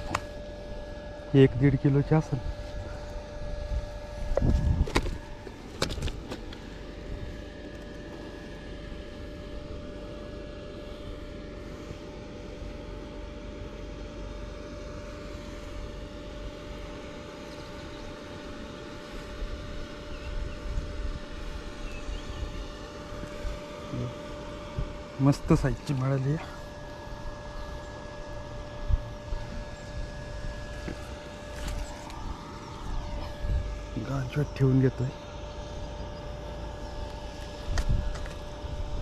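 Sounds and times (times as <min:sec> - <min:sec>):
machine drone with low rumble: 0:00.0 - 0:39.0.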